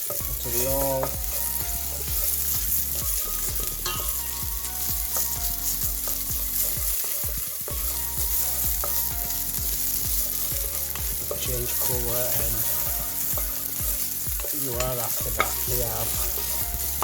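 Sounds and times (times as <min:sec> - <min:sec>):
onions sizzling in a frying pan: 0:00.0 - 0:17.0
utensil scraping a pan: 0:00.0 - 0:17.0.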